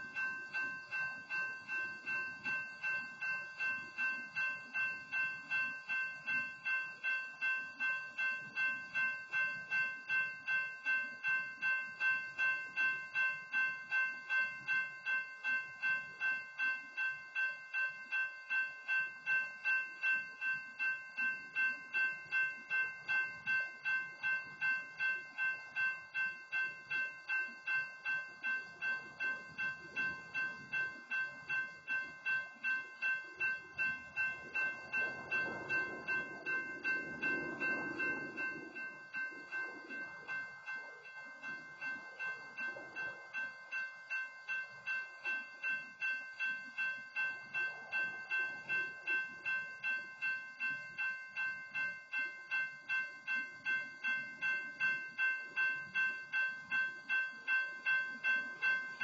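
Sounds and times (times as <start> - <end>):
railroad crossing bell ringing: 0.0 - 59.0.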